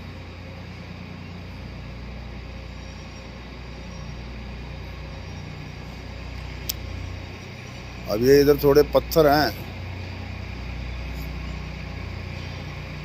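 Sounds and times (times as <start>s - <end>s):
tractor engine under load: 0.0s - 13.0s.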